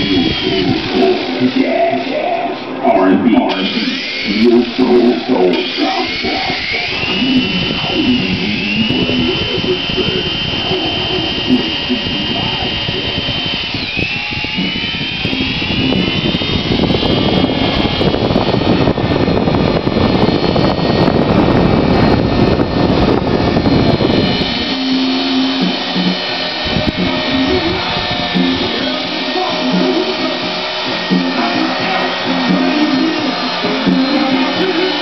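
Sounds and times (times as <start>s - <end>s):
pitched hum: 0.0s - 35.0s
rotors rushing air: 0.0s - 35.0s
toy helicopter motors whining: 0.0s - 35.0s.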